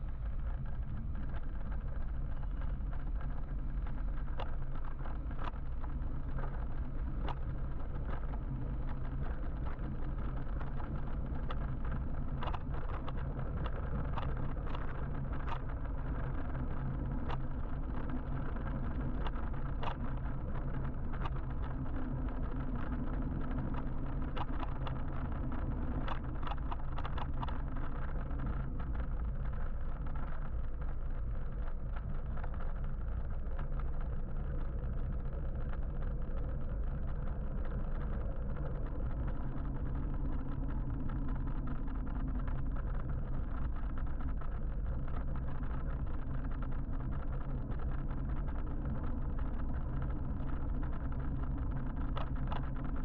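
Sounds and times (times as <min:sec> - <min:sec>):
wind and tyre rumble: 0:00.0 - 0:53.0.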